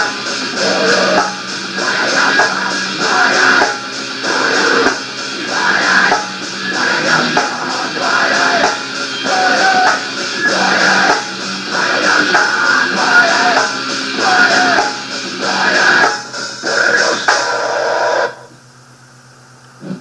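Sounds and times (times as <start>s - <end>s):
distorted electric guitar riff: 0.0s - 18.6s.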